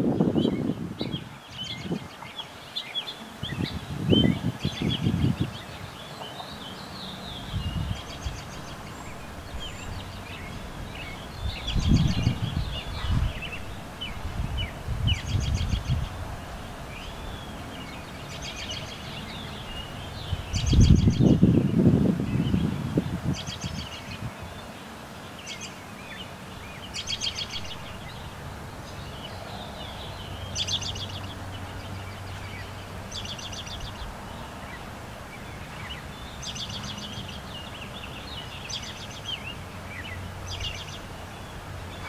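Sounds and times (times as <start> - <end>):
wind rumble on microphone: 0.0 - 2.4, 3.2 - 42.0
birds chirping and calling: 0.0 - 42.0.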